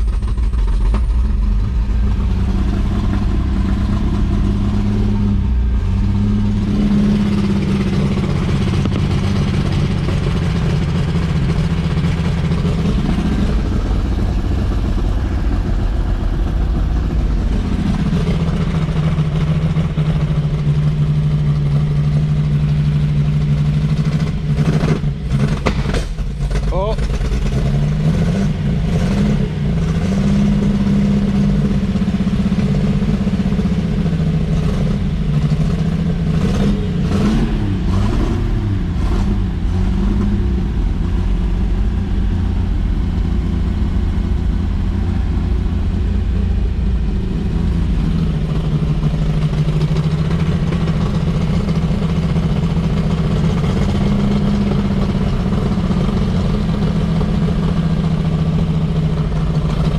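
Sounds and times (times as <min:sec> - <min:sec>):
old car engine revving and idling: 0:00.0 - 0:59.9.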